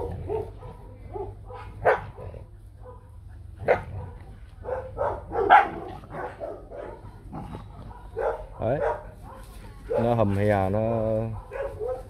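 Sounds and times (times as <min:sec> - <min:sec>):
dogs barking: 0:00.0 - 0:12.0
dogs growling: 0:00.0 - 0:12.0.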